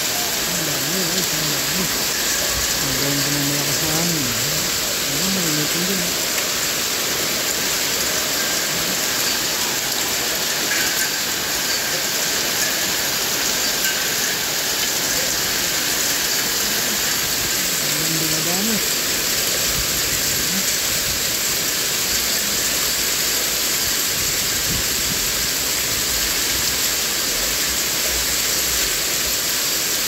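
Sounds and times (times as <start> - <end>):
hail and rain on roofs: 0.0 - 30.0.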